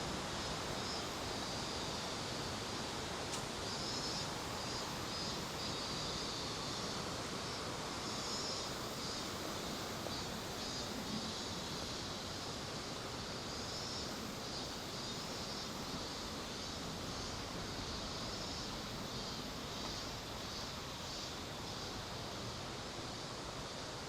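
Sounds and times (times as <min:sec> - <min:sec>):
cicadas singing in pulsing chorus: 0:00.0 - 0:24.0.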